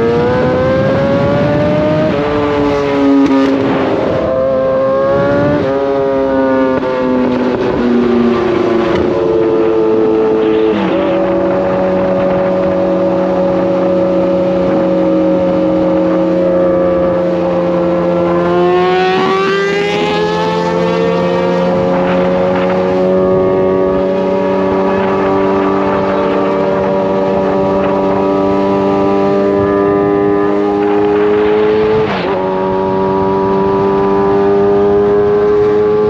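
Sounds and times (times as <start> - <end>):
motorcycle engine revving up: 0.0 - 36.0
motorcycle engines cruising: 0.0 - 36.0.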